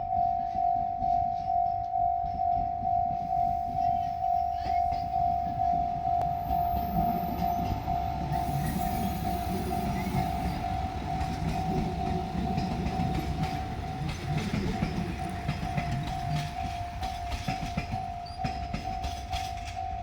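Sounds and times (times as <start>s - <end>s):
level-crossing warning bell: 0.0s - 20.0s
diesel train rumbling past: 2.2s - 20.0s.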